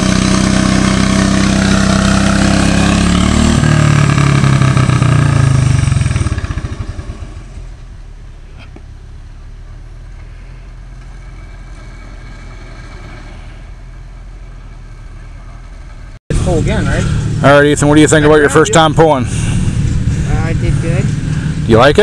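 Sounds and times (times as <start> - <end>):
tractor engine revving and idling: 0.0 - 22.0.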